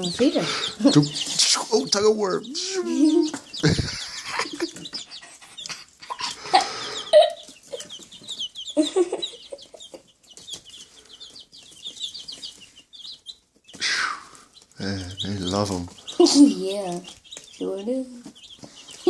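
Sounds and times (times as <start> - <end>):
baby chicks peeping: 0.0 - 19.0.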